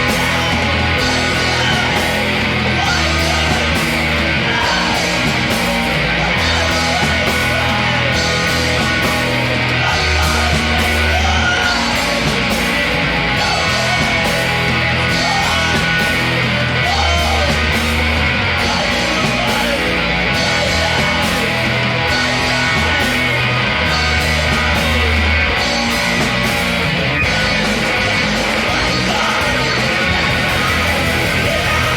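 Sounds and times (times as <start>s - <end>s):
loud heavy rock band: 0.0s - 31.9s
singer yelling: 0.0s - 31.9s.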